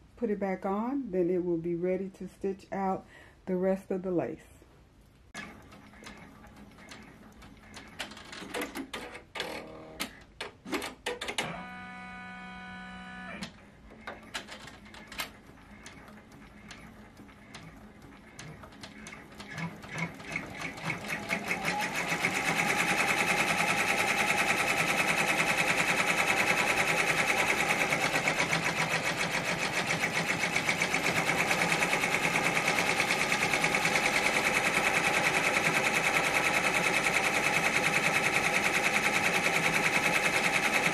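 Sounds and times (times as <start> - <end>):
embroidery machine stitching: 5.4 - 12.0, 13.3 - 40.9.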